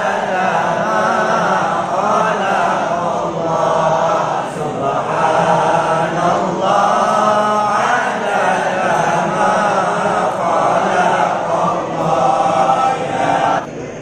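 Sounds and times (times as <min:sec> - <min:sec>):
group chanting prayers in unison: 0:00.0 - 0:14.0.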